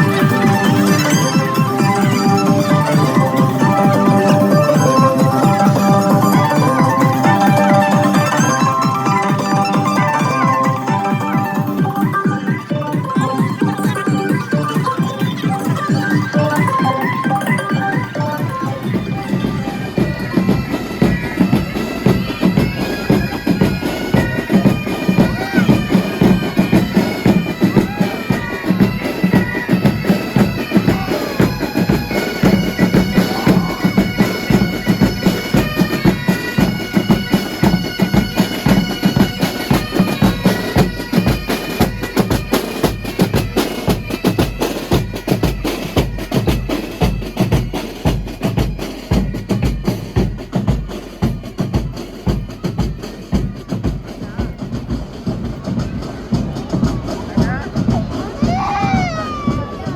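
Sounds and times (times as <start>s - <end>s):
bagpipes playing melody: 0.0s - 54.9s
bass and snare drums beating: 0.0s - 59.9s.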